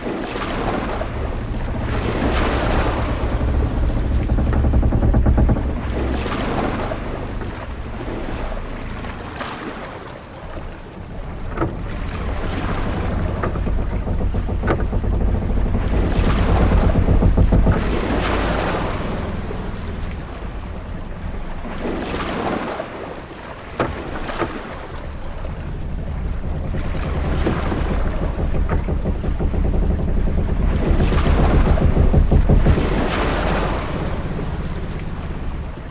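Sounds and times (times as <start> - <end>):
waves washing against hull: 0.0 - 35.9
short knocks: 0.4 - 9.4, 10.5 - 22.6, 23.7 - 35.9.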